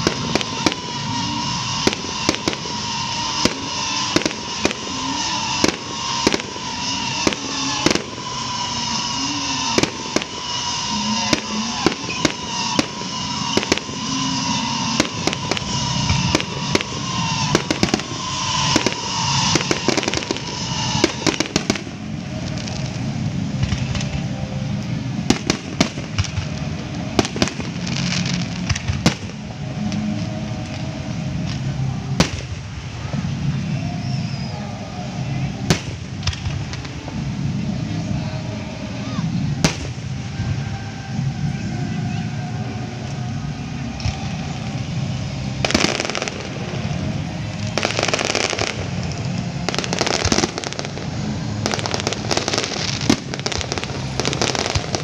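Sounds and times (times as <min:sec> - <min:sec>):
steady high tone: 0:00.0 - 0:35.7, 0:36.5 - 0:55.0
fireworks bursting: 0:00.0 - 0:55.0.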